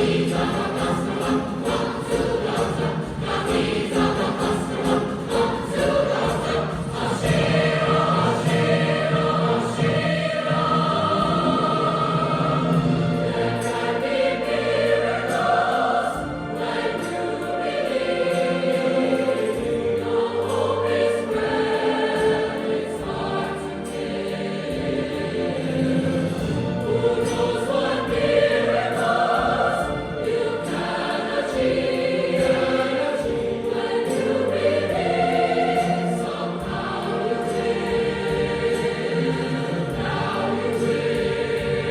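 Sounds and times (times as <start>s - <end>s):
choir singing with accompaniment: 0.0s - 41.9s.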